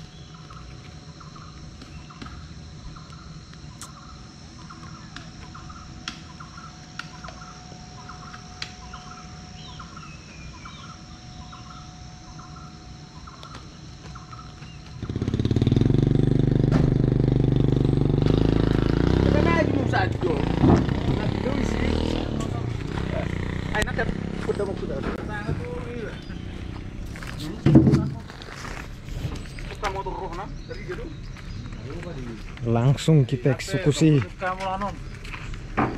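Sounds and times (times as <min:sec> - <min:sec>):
birds chirping: 0:00.0 - 0:16.4, 0:17.0 - 0:35.9
vehicle engine running: 0:00.0 - 0:32.8
insects chirping: 0:00.0 - 0:35.9.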